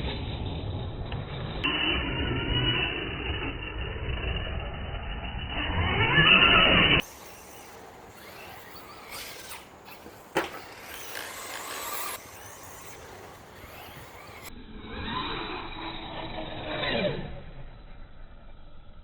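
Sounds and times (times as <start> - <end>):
toy truck motor whining: 1.6 - 17.8.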